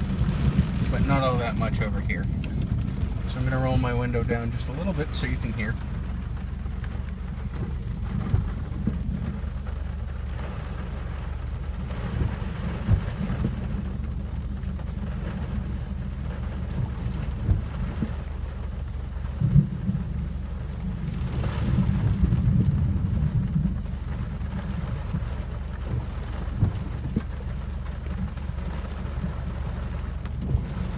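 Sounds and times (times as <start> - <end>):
rain falling on a car: 0.0 - 30.9
thunder rumbling: 0.0 - 30.9.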